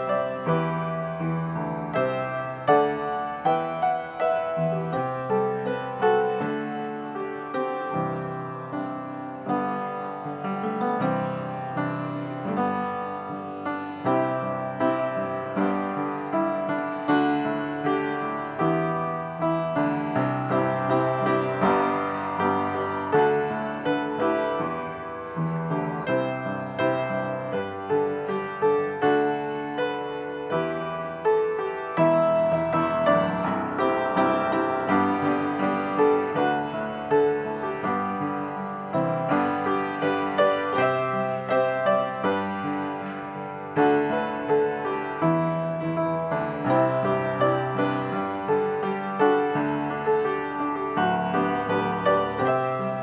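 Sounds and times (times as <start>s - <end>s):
solo piano piece: 0.0s - 53.0s.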